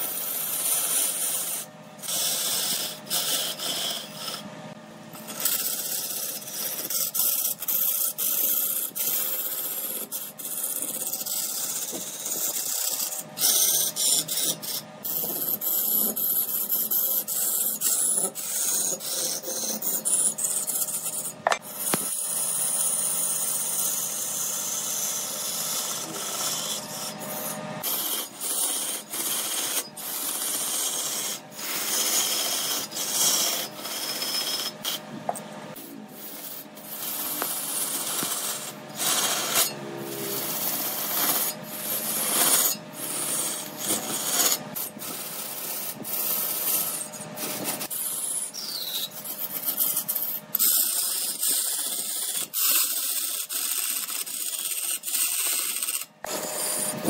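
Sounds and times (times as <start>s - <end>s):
lathe tool scraping wood: 0.0s - 57.0s.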